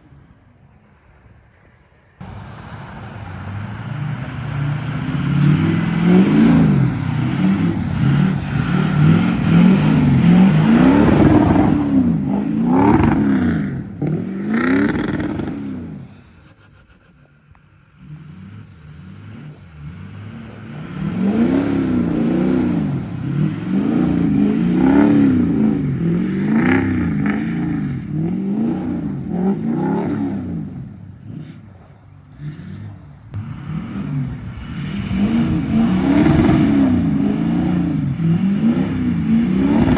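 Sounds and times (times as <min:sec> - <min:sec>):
truck engine revving: 0:02.2 - 0:39.9.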